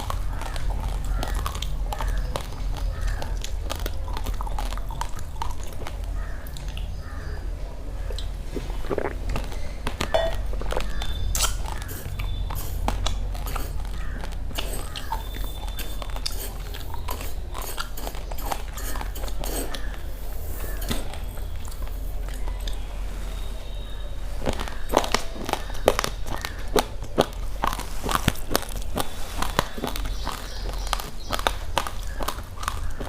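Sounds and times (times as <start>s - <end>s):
chewing crunchy rice: 0.0s - 33.0s.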